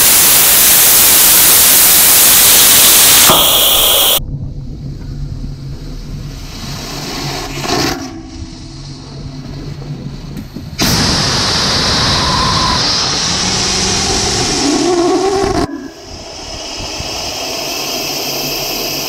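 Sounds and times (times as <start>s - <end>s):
steady hiss: 0.0s - 4.2s, 4.8s - 19.0s
rocket engine firing loudly: 0.0s - 9.0s, 10.8s - 19.0s.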